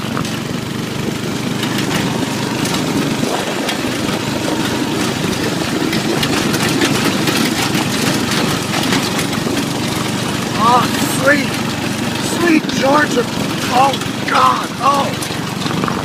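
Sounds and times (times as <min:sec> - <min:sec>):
go-kart engine running: 0:00.0 - 0:16.0
clicks and rattles: 0:01.5 - 0:16.0.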